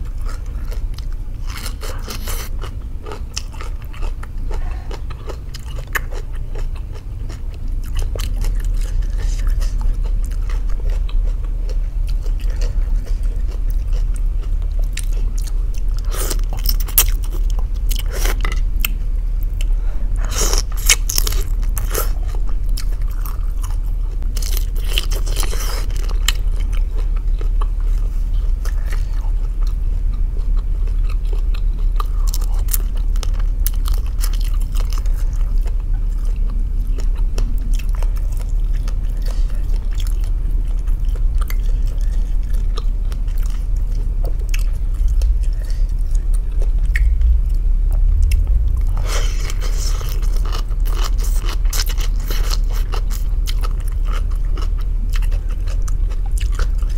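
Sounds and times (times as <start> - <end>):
person chewing crunchy food: 0.0 - 56.9
steady low hum: 0.0 - 56.9.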